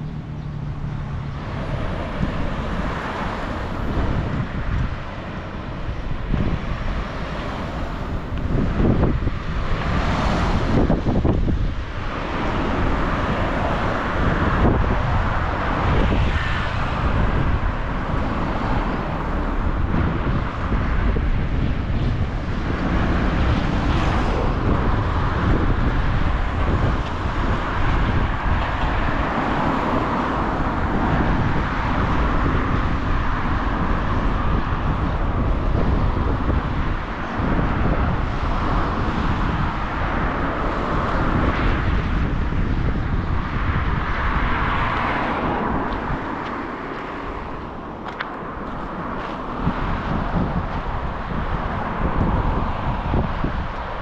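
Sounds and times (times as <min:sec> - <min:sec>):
car driving: 0:00.0 - 0:54.0
road and wind noise: 0:00.0 - 0:54.0.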